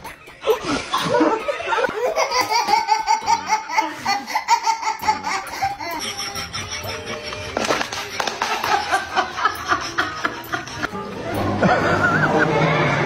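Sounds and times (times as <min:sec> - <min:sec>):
baby laughing: 0:00.0 - 0:11.0.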